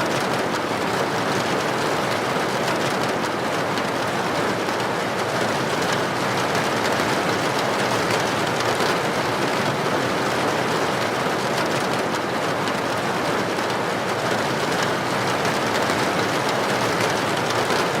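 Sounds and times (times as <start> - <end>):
heavy rain on a tin roof: 0.0 - 18.0.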